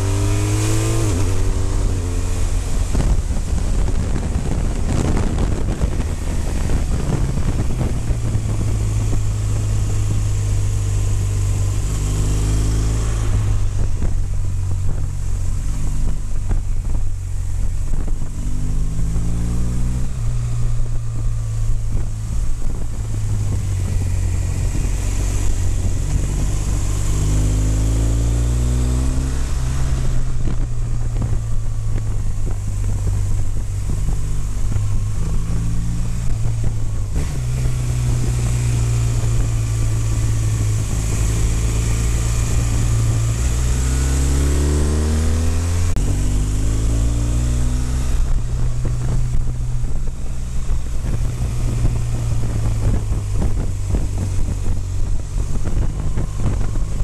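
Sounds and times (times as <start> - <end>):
motorcycle engine accelerating: 0.0 - 57.0
wind rush on microphone: 0.0 - 57.0.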